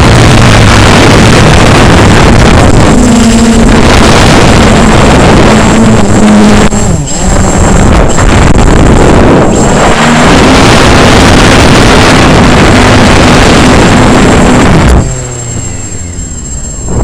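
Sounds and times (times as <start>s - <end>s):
quadcopter motors and propellers droning: 0.0s - 17.0s
wind on microphone: 0.0s - 17.0s.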